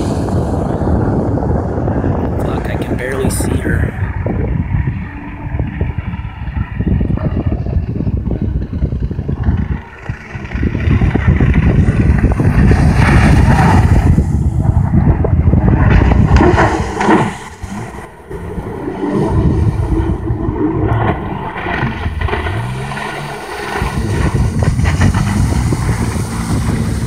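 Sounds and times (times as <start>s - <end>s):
jet ski engine running: 0.0s - 27.0s
wind rumble on microphone: 0.0s - 27.0s.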